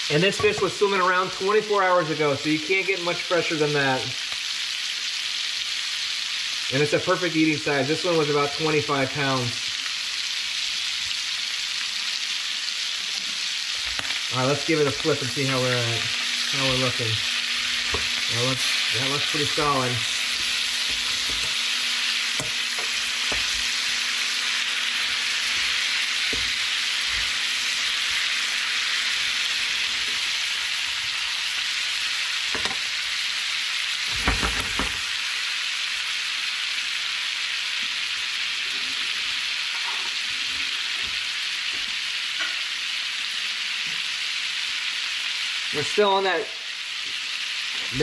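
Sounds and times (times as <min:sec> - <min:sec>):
fish sizzling in a pan: 0:00.0 - 0:48.0.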